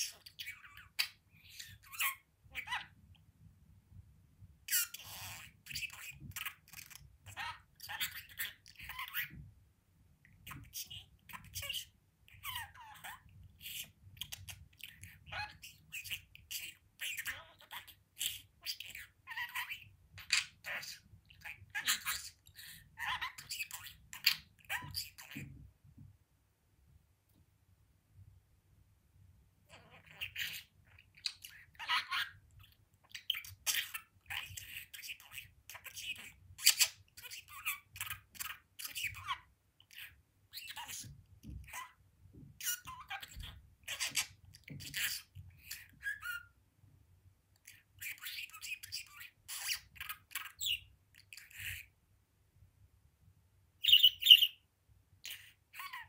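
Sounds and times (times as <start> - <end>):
budgerigar chattering and warbling: 0.0 - 3.0, 4.7 - 9.4, 10.4 - 25.6, 29.7 - 42.0, 42.6 - 46.6, 47.6 - 51.9, 53.8 - 54.6, 55.2 - 56.0.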